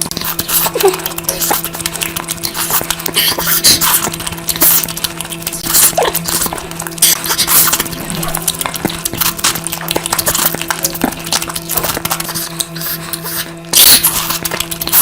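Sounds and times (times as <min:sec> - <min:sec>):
steady low hum: 0:00.0 - 0:15.0
wet chewing smacks and clicks: 0:00.0 - 0:15.0.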